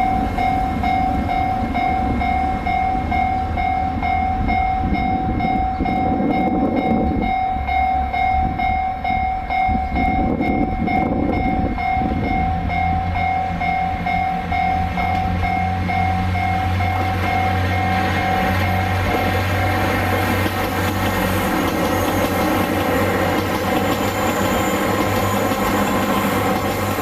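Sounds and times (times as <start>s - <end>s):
level crossing alarm ringing: 0.0s - 27.0s
train rumbling: 0.0s - 27.0s.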